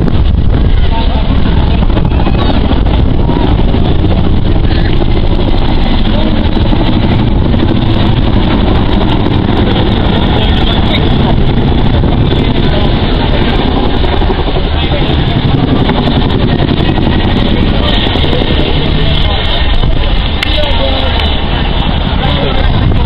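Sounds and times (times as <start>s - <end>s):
helicopter rotors beating: 0.0s - 23.0s
turbine engines running: 0.0s - 23.0s.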